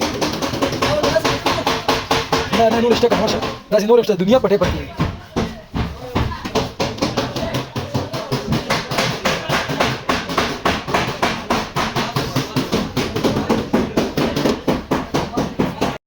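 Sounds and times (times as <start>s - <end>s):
hammer beating sheet metal: 0.0s - 16.0s.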